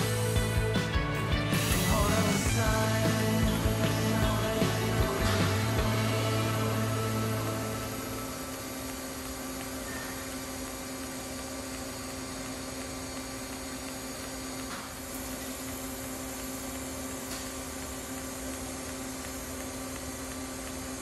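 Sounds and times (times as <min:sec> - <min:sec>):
steady hum: 0:00.0 - 0:21.0
welding arc hiss: 0:00.0 - 0:21.0.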